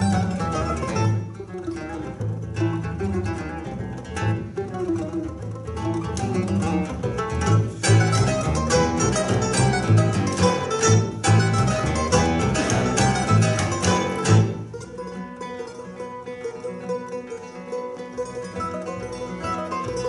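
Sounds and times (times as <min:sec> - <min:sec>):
classical guitar: 0:00.0 - 0:20.0
mandolin: 0:00.0 - 0:20.0
plucked double bass: 0:00.0 - 0:20.0.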